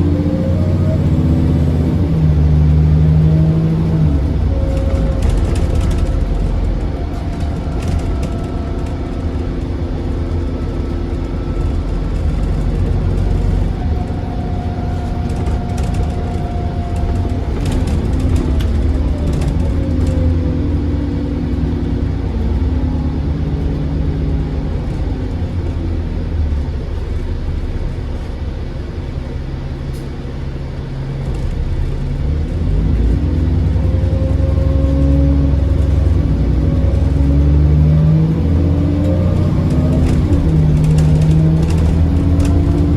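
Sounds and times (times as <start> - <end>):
bus diesel engine: 0.0 - 42.9.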